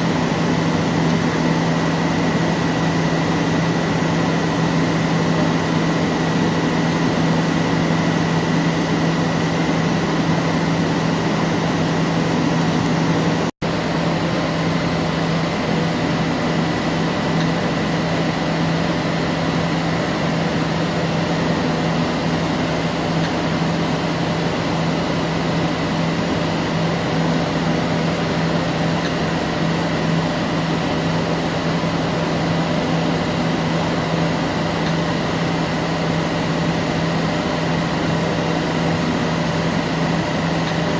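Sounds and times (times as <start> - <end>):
lathe machine hum: 0.0 - 40.9.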